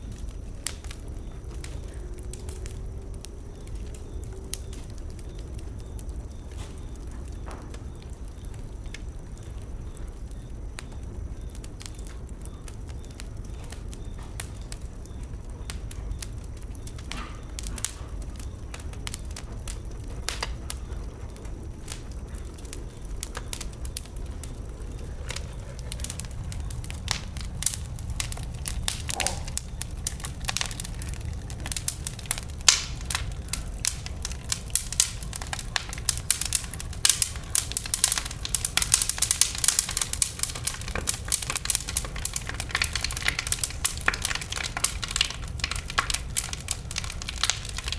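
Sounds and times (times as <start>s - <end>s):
bonfire crackling and popping: 0.0s - 47.9s.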